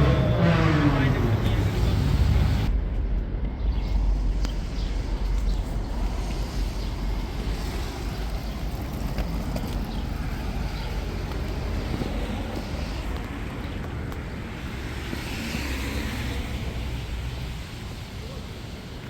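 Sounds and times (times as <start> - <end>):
city street rumble: 0.0 - 19.0.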